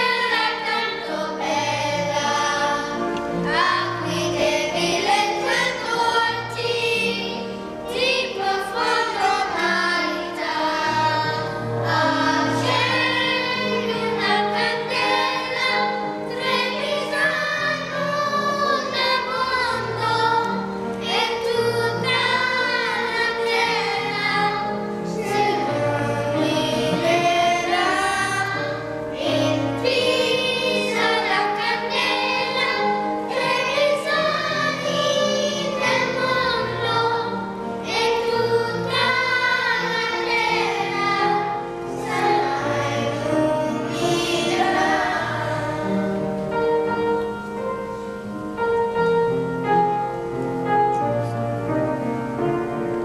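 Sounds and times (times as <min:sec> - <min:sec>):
mixed choir singing: 0:00.0 - 0:47.1.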